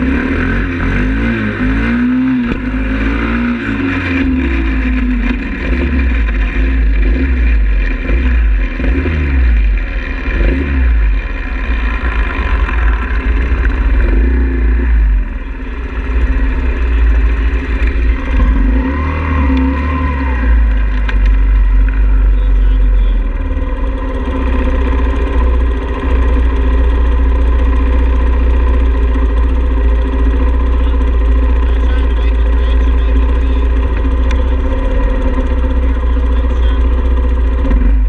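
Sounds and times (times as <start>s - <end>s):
motorbike engine revving: 0.0s - 38.0s.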